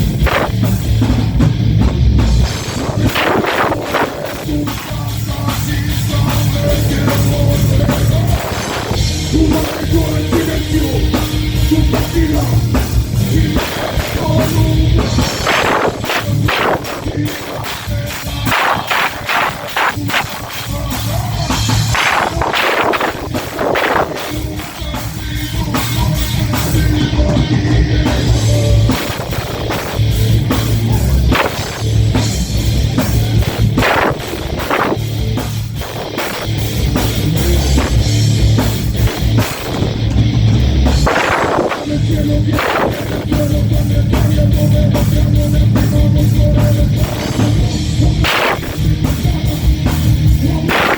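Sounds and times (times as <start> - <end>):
bass guitar: 0.0 - 50.9
drum kit: 0.0 - 50.9
electric guitars: 0.0 - 50.9
heavy metal band playing live: 0.0 - 50.9.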